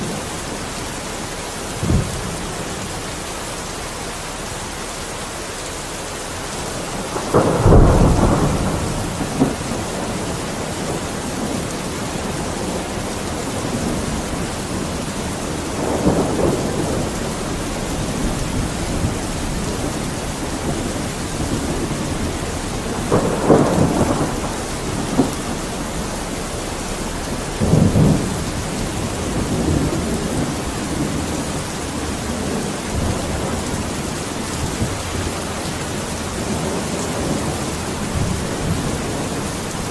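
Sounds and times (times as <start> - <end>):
thunder rumbling: 0.0 - 3.2, 5.9 - 39.9
heavy rain: 0.0 - 39.9.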